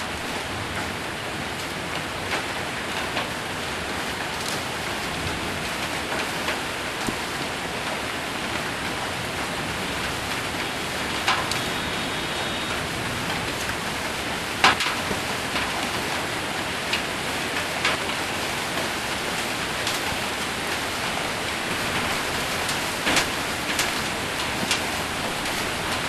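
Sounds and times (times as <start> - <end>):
hailstones striking metal roof: 0.0 - 26.0
heavy rain on metal roof: 0.0 - 26.0.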